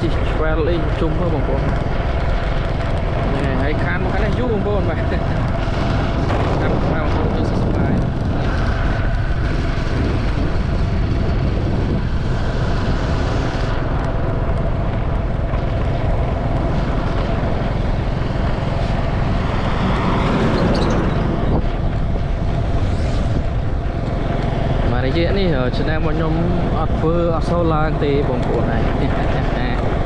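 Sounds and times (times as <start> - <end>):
vehicle running noise: 0.0 - 30.0
wind on microphone: 0.0 - 30.0.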